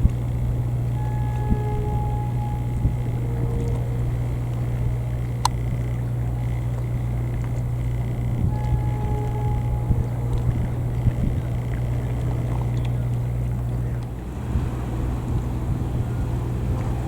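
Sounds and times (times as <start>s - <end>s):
faint short tones: 0.0s - 14.2s
ship diesel engine drone: 0.0s - 17.0s.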